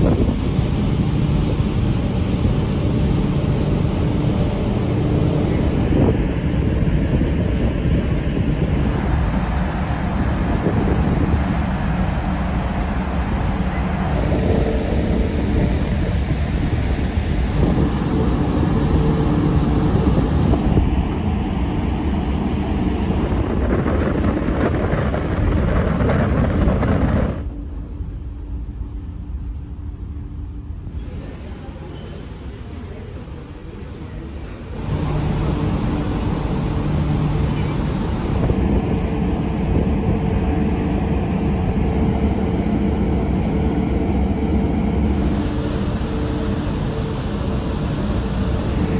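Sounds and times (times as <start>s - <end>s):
wind on microphone: 0.0s - 31.4s, 34.4s - 48.9s
ferry engine rumble: 0.0s - 48.9s
low hum: 0.0s - 48.9s.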